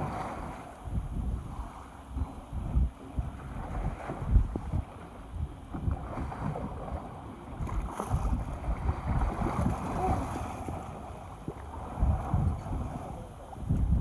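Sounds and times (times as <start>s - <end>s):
water washing against boat: 0.0s - 14.0s
wind buffeting microphone: 0.0s - 14.0s.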